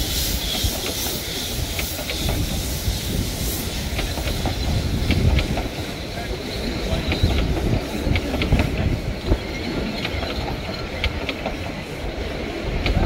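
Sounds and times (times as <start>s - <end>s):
train wheels rumbling and clicking: 0.0s - 13.0s.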